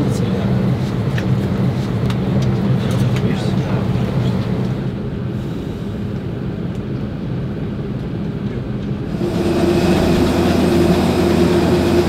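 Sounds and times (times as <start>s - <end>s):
airliner cabin hum: 0.0s - 12.0s
jet aircraft noise: 0.0s - 12.0s.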